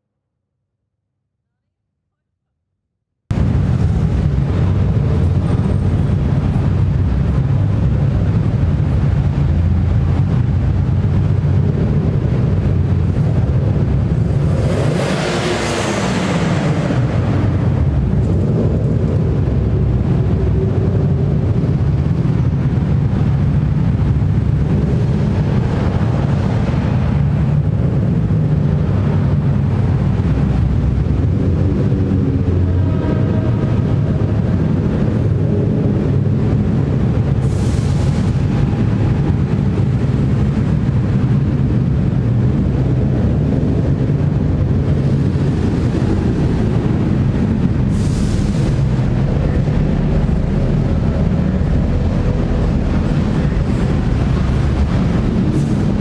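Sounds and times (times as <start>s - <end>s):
car engines rumbling: 3.3s - 56.0s.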